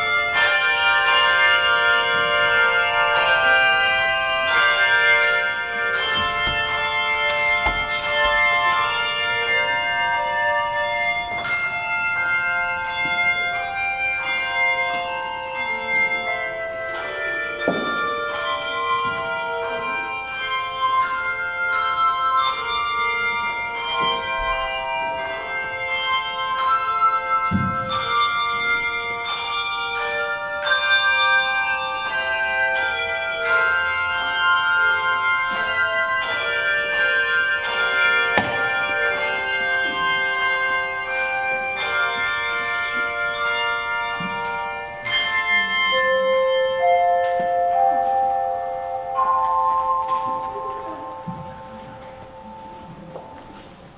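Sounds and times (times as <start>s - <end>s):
handbell choir ringing a hymn: 0.0s - 53.9s.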